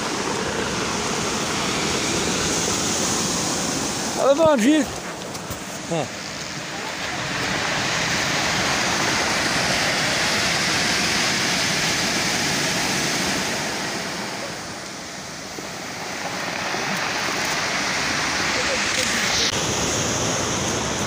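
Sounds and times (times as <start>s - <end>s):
surf breaking over rocks and pebbles: 0.0s - 21.0s.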